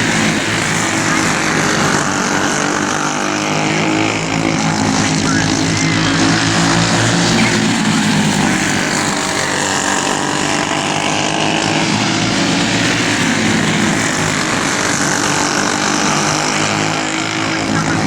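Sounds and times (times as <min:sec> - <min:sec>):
kart engines revving: 0:00.0 - 0:18.0.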